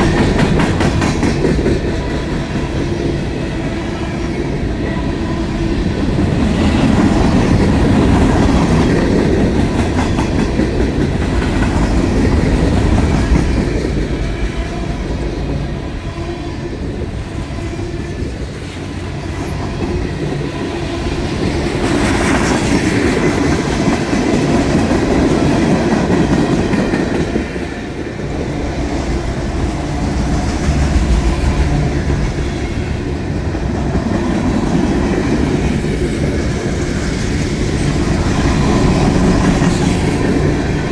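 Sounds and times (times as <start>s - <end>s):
freight train wheels rumbling on rails: 0.0s - 40.9s.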